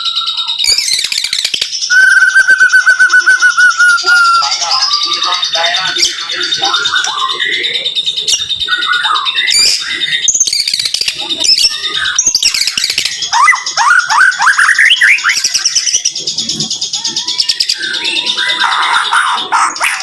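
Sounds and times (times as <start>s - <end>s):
bird singing trills and whistles: 0.0s - 20.0s.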